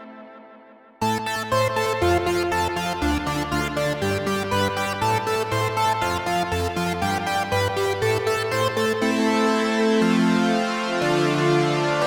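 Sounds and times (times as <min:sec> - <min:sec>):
synthesizer sustained chords with delay: 0:00.0 - 0:12.0.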